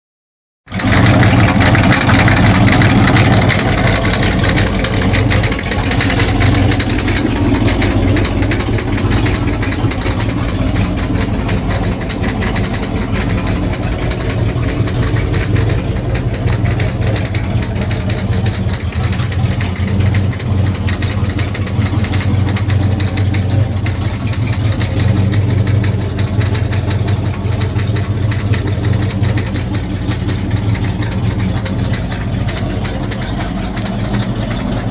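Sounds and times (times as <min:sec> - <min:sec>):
boat engine idling: 0:00.6 - 0:34.9.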